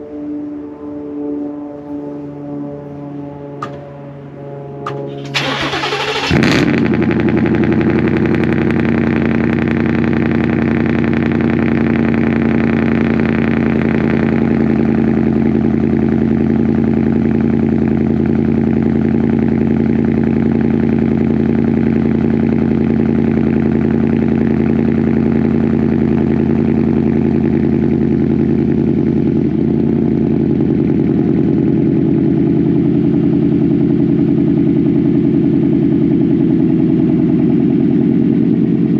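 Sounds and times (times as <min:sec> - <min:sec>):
engine loud cold idle: 0:04.8 - 0:38.9.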